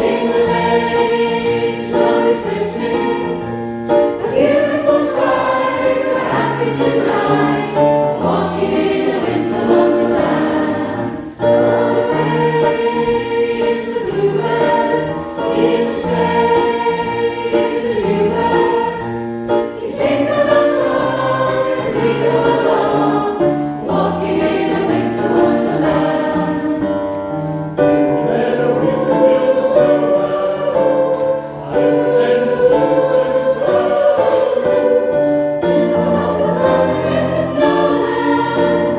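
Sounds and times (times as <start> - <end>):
choir singing in parts: 0.0 - 38.9.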